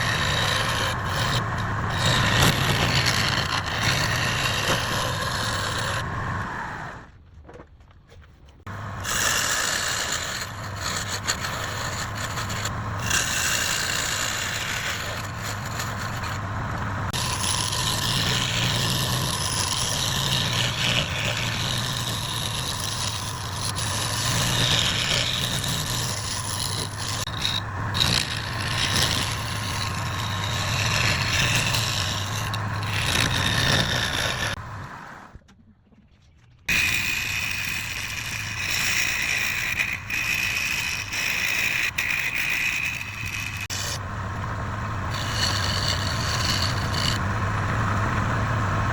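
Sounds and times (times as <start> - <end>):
turning tool scraping workpiece: 0.0 - 7.0, 8.6 - 34.6, 36.7 - 44.1, 45.0 - 47.3
lathe motor hum: 0.0 - 7.1, 8.7 - 35.3, 36.7 - 48.9.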